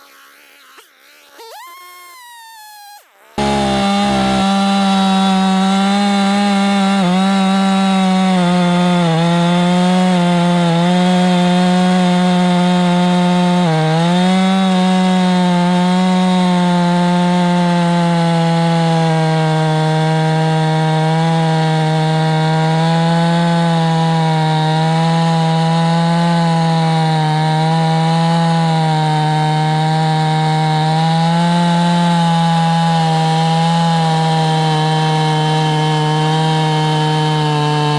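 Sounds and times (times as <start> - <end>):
chainsaw cutting log: 0.0 - 37.9.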